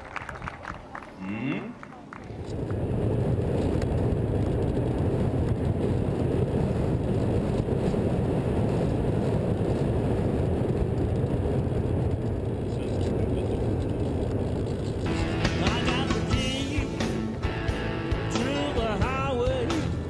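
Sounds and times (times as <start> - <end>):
wind rush: 2.1 - 20.0.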